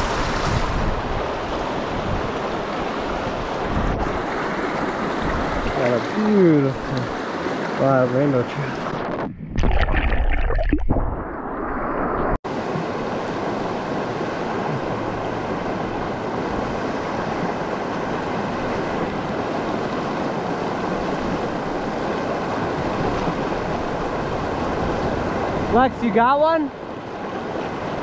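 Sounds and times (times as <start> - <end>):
mountain creek rushing: 0.0 - 9.3, 11.7 - 28.0.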